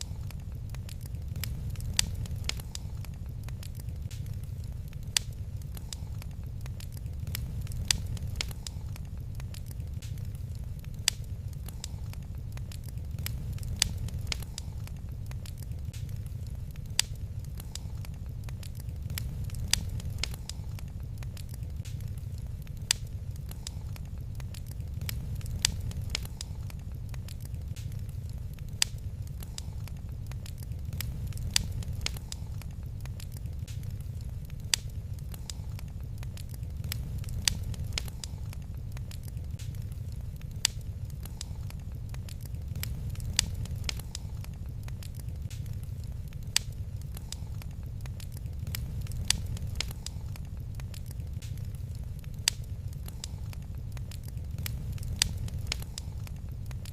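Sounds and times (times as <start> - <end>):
fire flames rumbling: 0.0 - 56.9
small fire crackles: 0.0 - 56.9.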